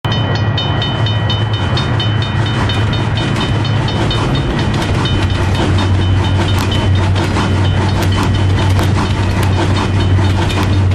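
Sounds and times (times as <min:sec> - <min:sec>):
diesel train engine hum: 0:00.1 - 0:10.9
fast metallic clicking: 0:01.4 - 0:10.9.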